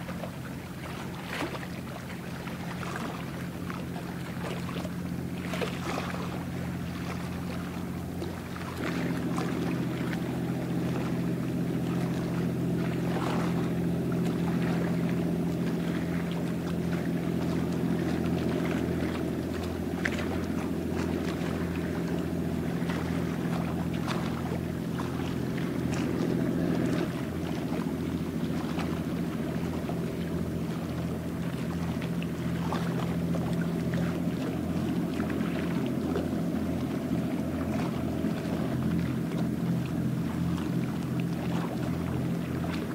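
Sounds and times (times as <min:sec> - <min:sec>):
ship engine droning: 0:00.0 - 0:42.9.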